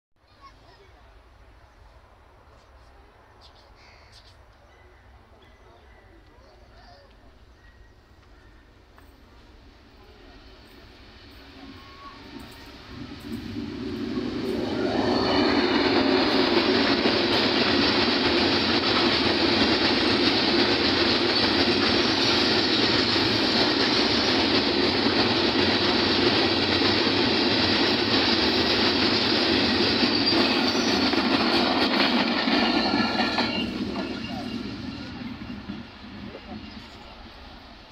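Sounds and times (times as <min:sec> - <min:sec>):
rail and wheel noise: 0:00.2 - 0:37.9
diesel locomotive passing: 0:00.4 - 0:37.9.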